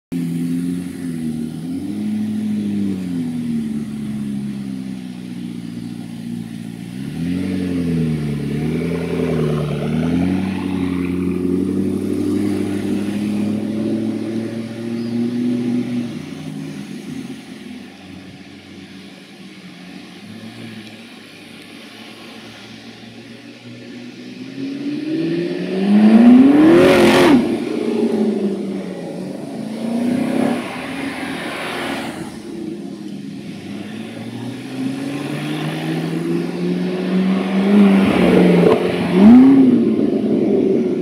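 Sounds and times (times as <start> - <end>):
car engine revving and accelerating: 0.2 - 41.0.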